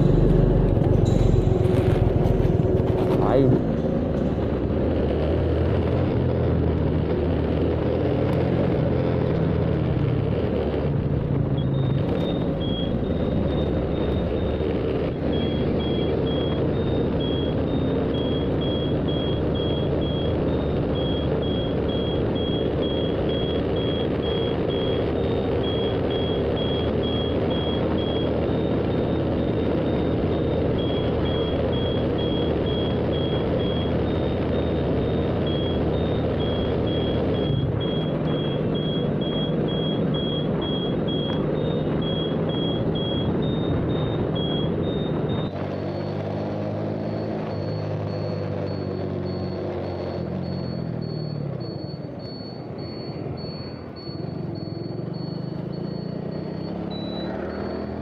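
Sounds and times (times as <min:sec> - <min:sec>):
short electronic beeps: 0:00.0 - 0:03.7, 0:11.4 - 0:58.0
vehicle engine and road noise: 0:00.0 - 0:58.0.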